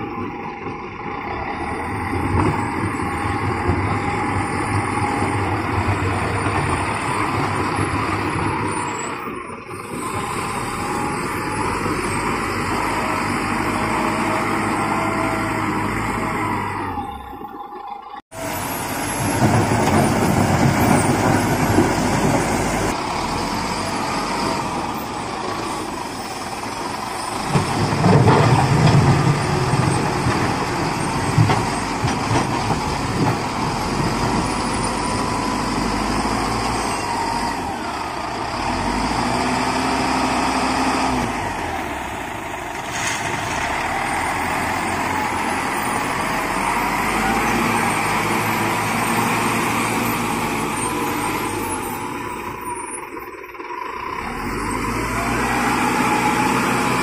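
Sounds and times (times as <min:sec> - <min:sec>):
heavy truck engine running: 0:00.0 - 0:57.0.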